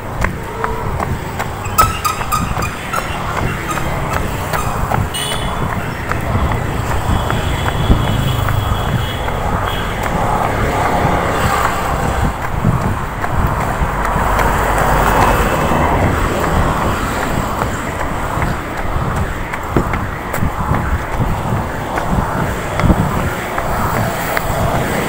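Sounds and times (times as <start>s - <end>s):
road traffic passing: 0.0s - 25.0s
car passing close: 0.6s - 25.0s.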